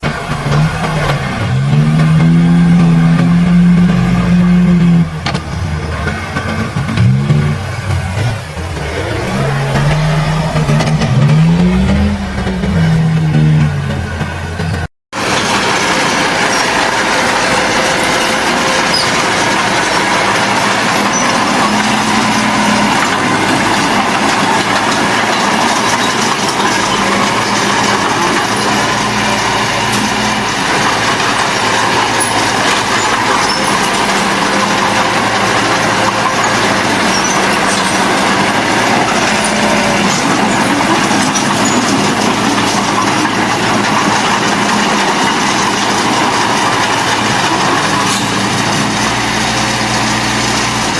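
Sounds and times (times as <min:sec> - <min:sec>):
diesel engine droning clatter: 0:00.0 - 0:50.9.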